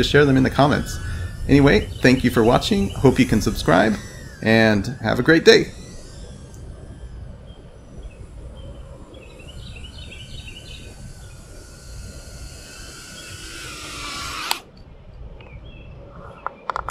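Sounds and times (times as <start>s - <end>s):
quadcopter motors whining: 0.0s - 15.8s
birds chirping: 0.0s - 16.9s.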